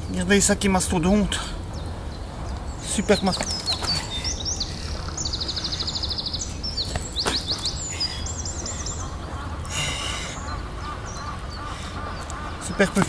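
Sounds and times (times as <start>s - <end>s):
low outdoor rumble: 0.0s - 13.0s
small songbirds singing: 0.0s - 13.0s.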